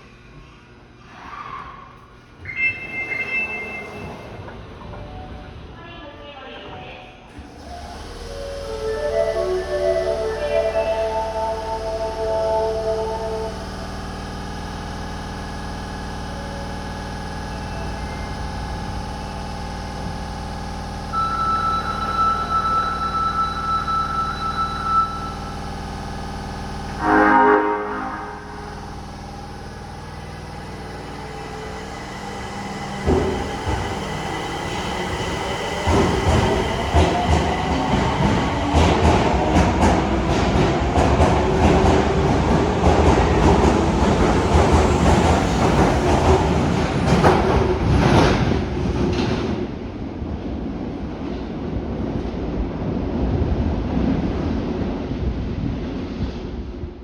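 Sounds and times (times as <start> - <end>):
subway train humming with whine: 0.0 - 57.0.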